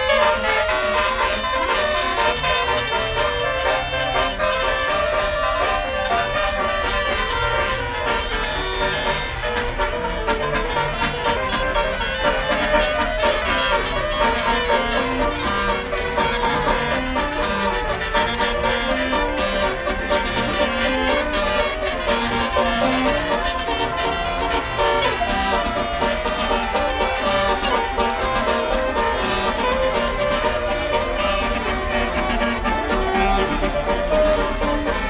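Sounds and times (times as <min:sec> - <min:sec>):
bus horn playing melody: 0:00.0 - 0:35.0.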